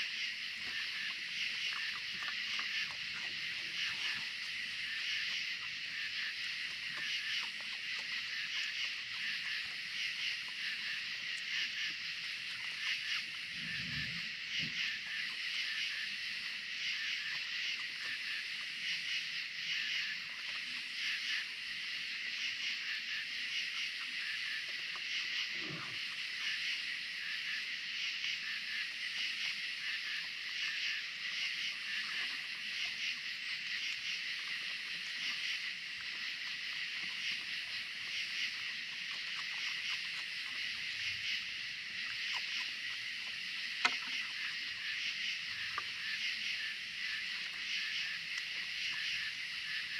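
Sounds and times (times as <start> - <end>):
night insects chorus: 0.0 - 49.9.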